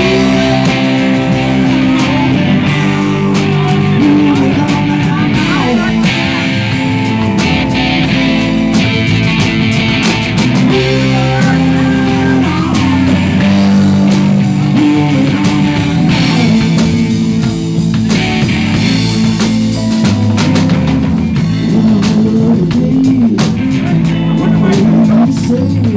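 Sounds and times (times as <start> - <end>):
bass guitar: 0.0 - 25.9
drum kit: 0.0 - 25.9
electric guitar: 0.0 - 25.9.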